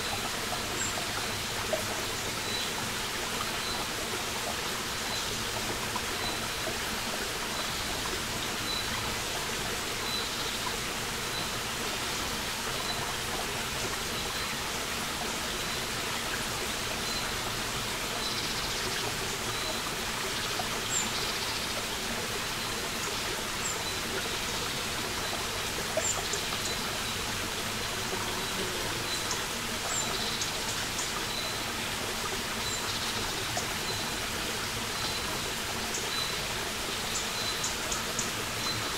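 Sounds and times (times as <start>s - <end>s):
brook running over stones: 0.0s - 38.9s.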